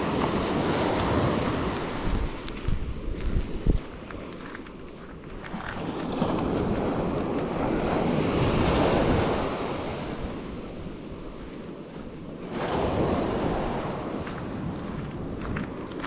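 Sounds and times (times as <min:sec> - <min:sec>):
small waves breaking on beach: 0:00.0 - 0:16.0
wind buffeting microphone: 0:00.0 - 0:16.0.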